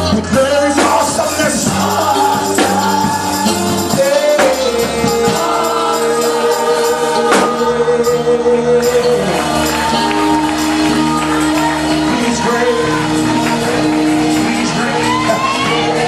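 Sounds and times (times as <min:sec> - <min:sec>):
band playing: 0:00.0 - 0:16.0
percussion hits: 0:00.0 - 0:16.0
choir singing held notes: 0:00.2 - 0:16.0.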